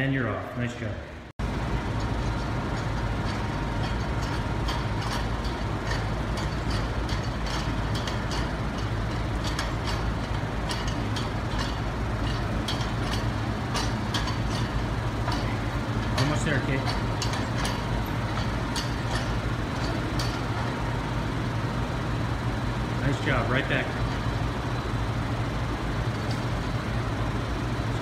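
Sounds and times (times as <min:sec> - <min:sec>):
floor fan humming: 0:00.0 - 0:28.0.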